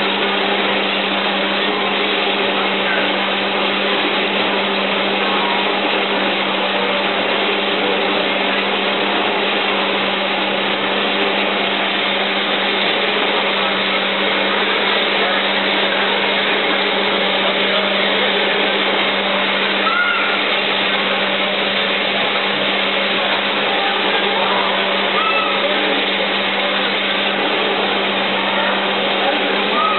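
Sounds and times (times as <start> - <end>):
machine whirring: 0.0 - 29.9.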